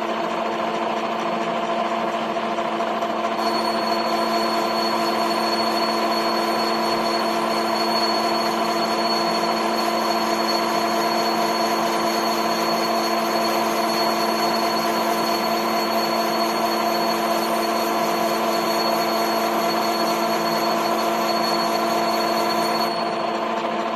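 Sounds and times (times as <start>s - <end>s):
lathe running: 0.0s - 23.9s.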